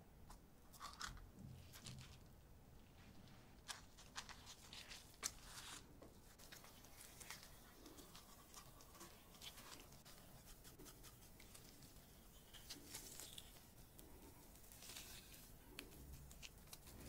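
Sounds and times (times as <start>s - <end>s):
soft rustling of gloved hands: 0.2s - 17.0s.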